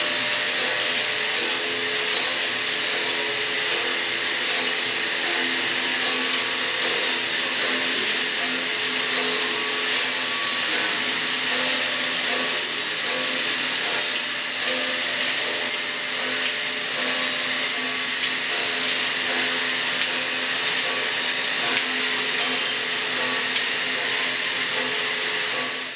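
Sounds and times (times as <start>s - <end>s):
mechanical whirring and rasping: 0.0s - 25.9s.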